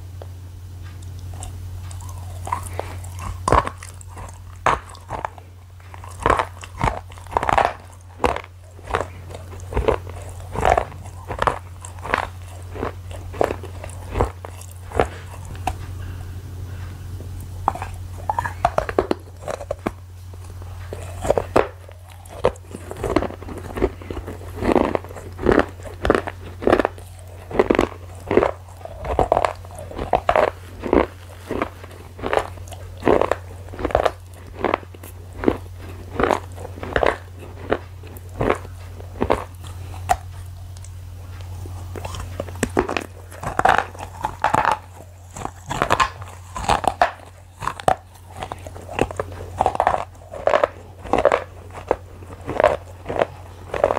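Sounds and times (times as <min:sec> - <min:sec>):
low hum: 0:00.0 - 0:53.9
person chewing crunchy food: 0:00.0 - 0:53.9.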